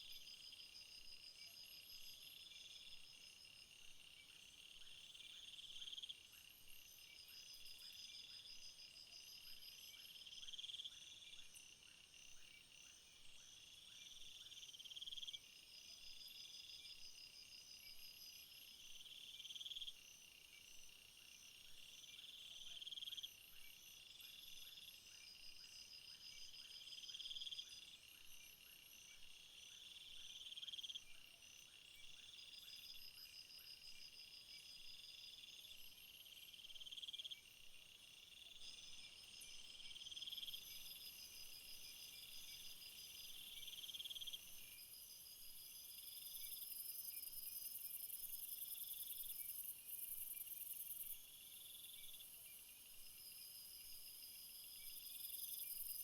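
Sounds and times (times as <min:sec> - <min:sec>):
crickets chirping: 0:00.0 - 0:56.0
high pulsed insect trills: 0:00.0 - 0:56.0.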